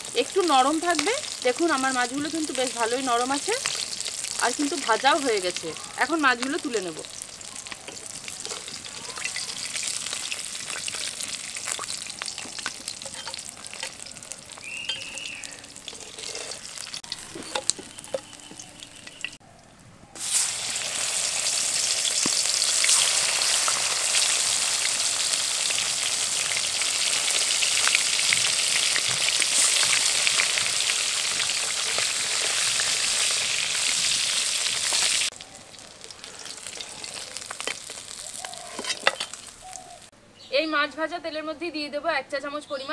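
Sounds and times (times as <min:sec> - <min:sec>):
fish sizzling in hot oil: 0:00.0 - 0:19.4, 0:20.2 - 0:40.1.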